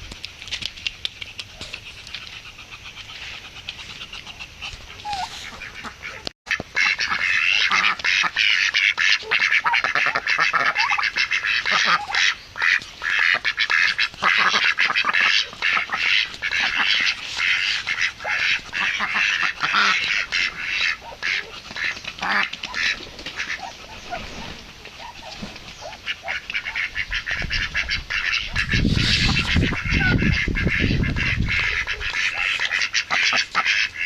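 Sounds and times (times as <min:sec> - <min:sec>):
birds chattering calls: 0:01.2 - 0:34.0.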